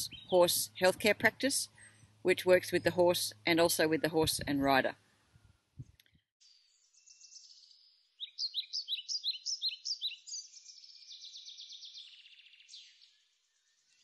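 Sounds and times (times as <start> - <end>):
songbird singing: 0.0 - 4.9, 6.0 - 14.0.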